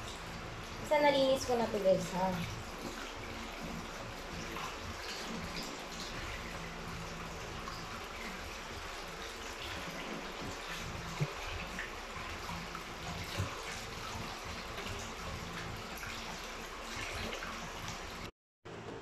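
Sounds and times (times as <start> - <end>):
water sloshing in a sink: 0.0 - 18.3.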